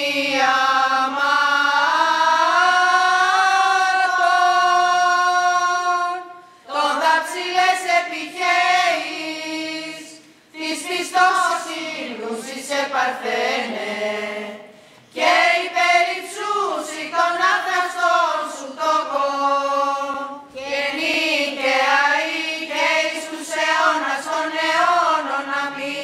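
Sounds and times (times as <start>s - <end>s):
women singing a chant together: 0.0s - 26.0s.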